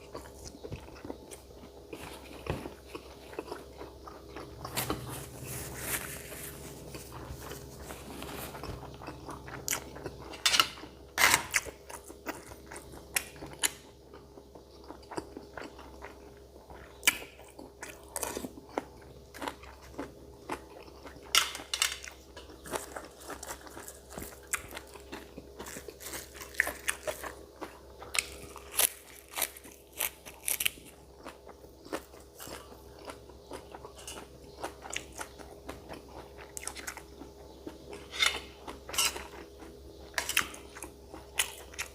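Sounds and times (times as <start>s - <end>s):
person chewing food: 0.0s - 41.9s.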